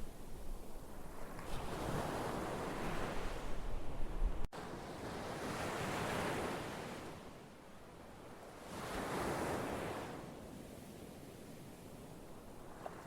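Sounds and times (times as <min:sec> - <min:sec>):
ocean surf washing ashore: 0:01.0 - 0:07.4, 0:08.4 - 0:13.0.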